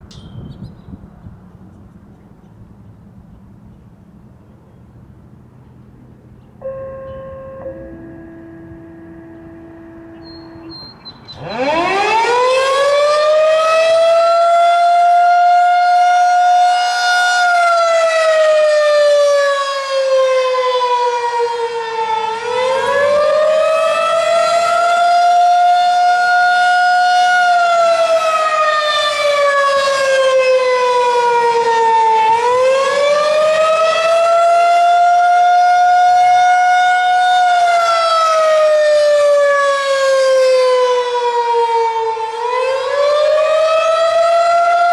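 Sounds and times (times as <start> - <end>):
outdoor warning siren winding: 6.6 - 44.9.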